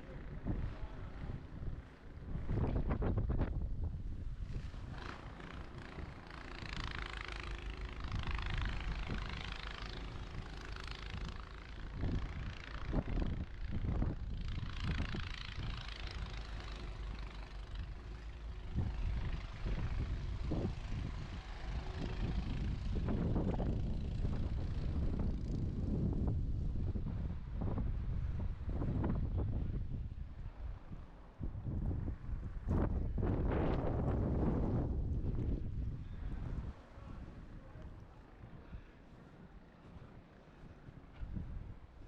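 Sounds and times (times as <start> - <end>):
vehicles passing on snowy road: 0.0 - 42.0
wind rumbling on microphone: 0.0 - 42.0.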